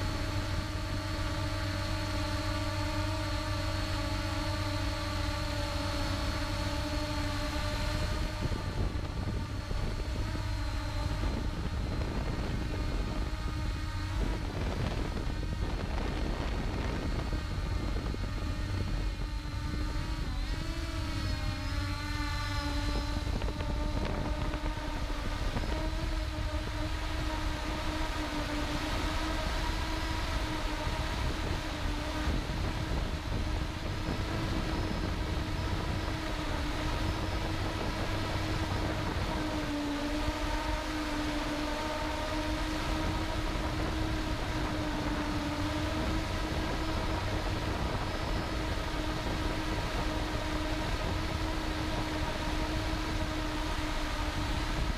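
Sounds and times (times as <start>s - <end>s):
drone propellers whining: 0.0s - 54.9s
wind rumbling on microphone: 0.0s - 54.9s.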